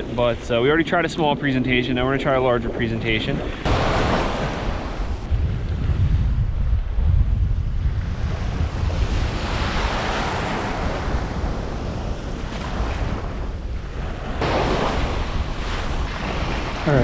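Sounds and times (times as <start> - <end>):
ocean surf breaking: 0.0 - 5.3, 8.3 - 17.0
wind buffeting microphone: 0.0 - 17.0.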